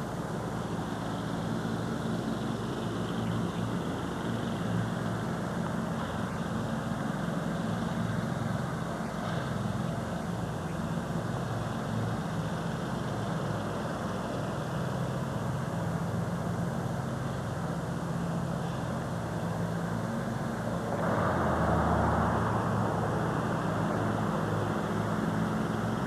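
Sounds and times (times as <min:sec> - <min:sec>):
haze of noise: 0:00.0 - 0:26.0
low mechanical hum: 0:00.0 - 0:26.0.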